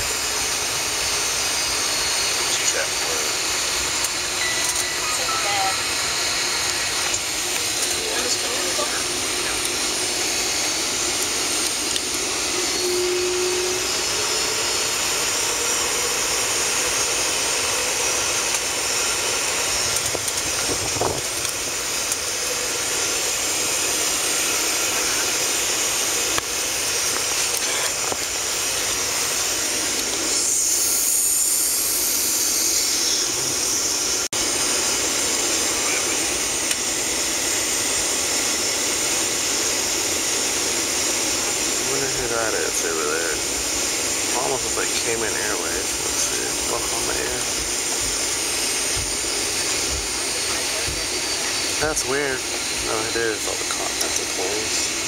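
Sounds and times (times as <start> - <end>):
jet engines at low power: 0.0 - 55.0.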